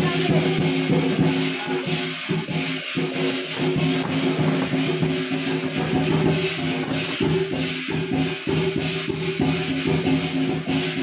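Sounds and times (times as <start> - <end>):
cymbal clashes: 0.0 - 11.0
drum beats: 0.0 - 11.0.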